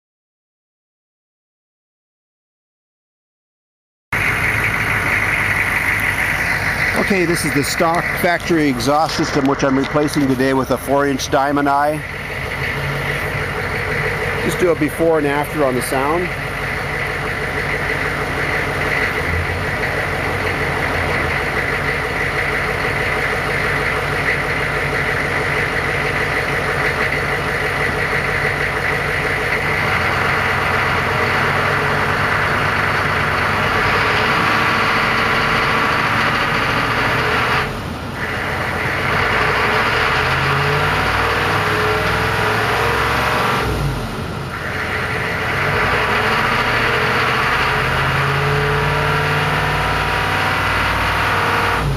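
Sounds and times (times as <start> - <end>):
diesel engine running: 4.1 - 51.9.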